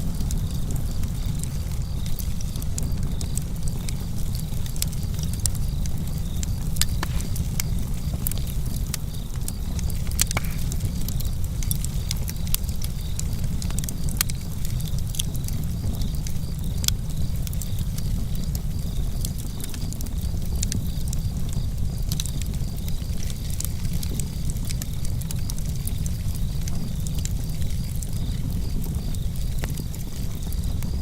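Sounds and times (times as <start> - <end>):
campfire crackling: 0.0 - 31.0.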